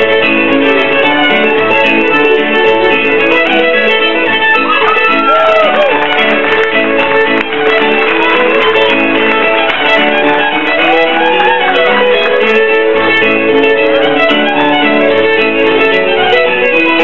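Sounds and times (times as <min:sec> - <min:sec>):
fiddle playing fast tune: 0:00.0 - 0:17.0
piano chording: 0:00.0 - 0:17.0.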